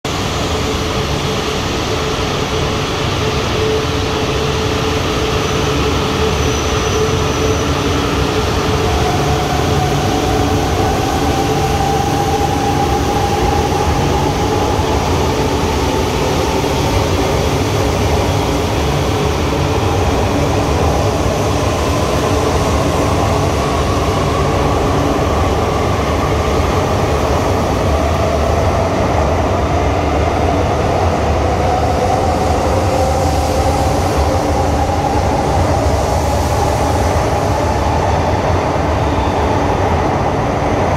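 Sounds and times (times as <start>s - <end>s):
train running noise: 0.0s - 40.9s.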